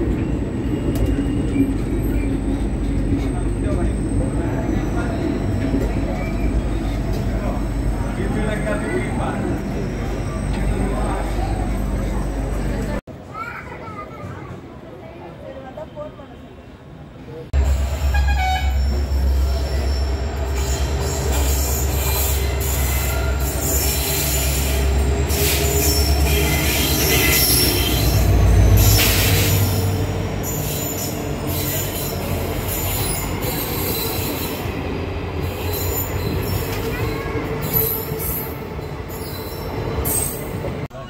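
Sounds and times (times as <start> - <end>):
train wheels squealing on rails: 0.0 - 13.0, 17.6 - 40.8
train rumbling: 0.0 - 13.1, 17.2 - 41.0.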